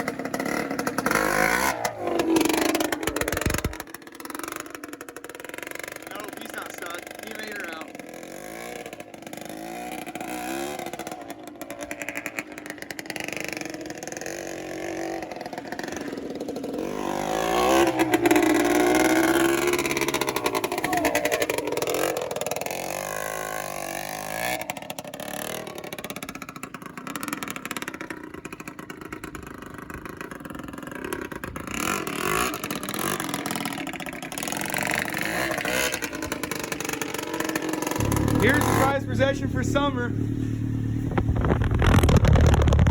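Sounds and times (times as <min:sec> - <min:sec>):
vehicle engine revving: 0:00.0 - 0:27.0, 0:31.0 - 0:42.9.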